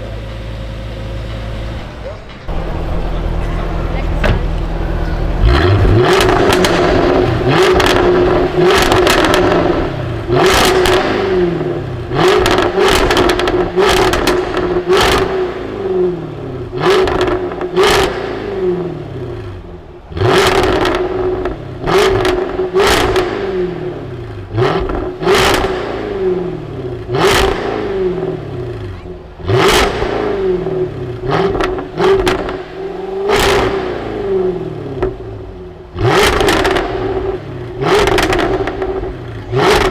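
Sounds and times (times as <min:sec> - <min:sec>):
car engine revving: 0:01.2 - 0:39.9.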